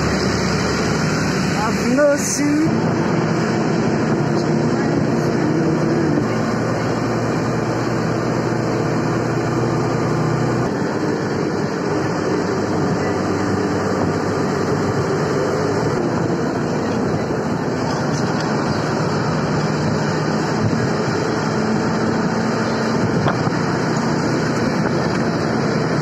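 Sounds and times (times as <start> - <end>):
road and wind rush: 0.0 - 26.0
vehicle engine hum: 0.0 - 26.0.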